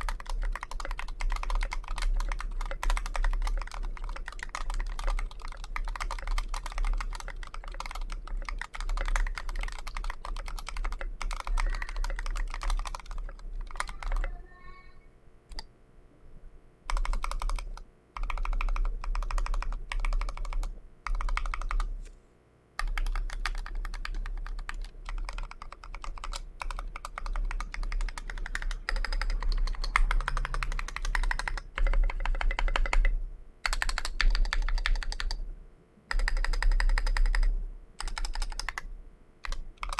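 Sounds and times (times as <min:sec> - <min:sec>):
fast typing on mechanical keyboard: 0:00.0 - 0:14.4, 0:16.9 - 0:21.9, 0:22.8 - 0:35.4, 0:36.1 - 0:39.9.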